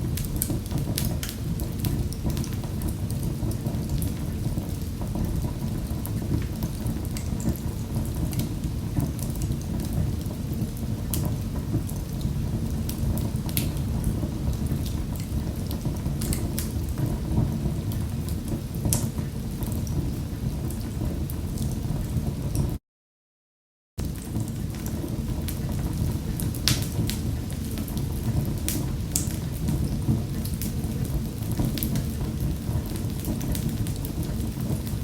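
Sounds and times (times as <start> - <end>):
fire crackling and popping: 0.0 - 22.8, 24.0 - 35.0
fire roaring: 0.0 - 22.8, 24.0 - 35.0.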